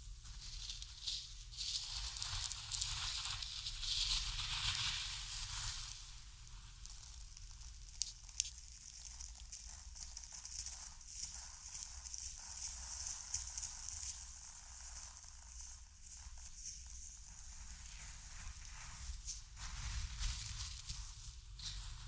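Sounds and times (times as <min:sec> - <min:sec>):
seeds rustling in a bowl: 0:00.0 - 0:22.0.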